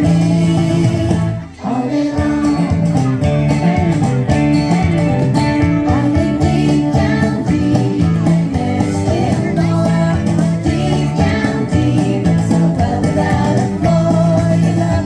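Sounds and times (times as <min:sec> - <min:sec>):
upbeat music with guitar and beat: 0:00.0 - 0:15.0.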